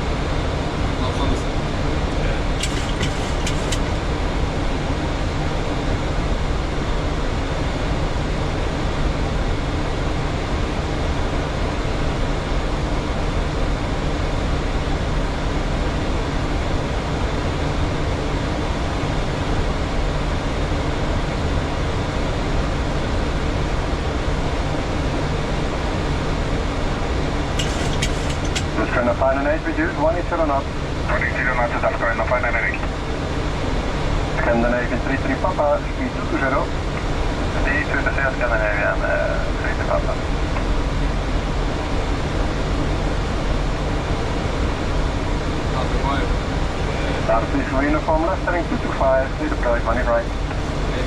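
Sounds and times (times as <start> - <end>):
aircraft cockpit hiss and rumble: 0.0 - 51.0.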